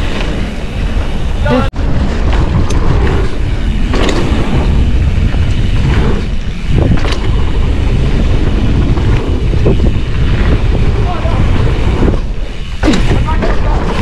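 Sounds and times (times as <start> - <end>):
bike rattling on dirt trail: 0.0 - 14.0
wind rushing over microphone: 0.0 - 14.0.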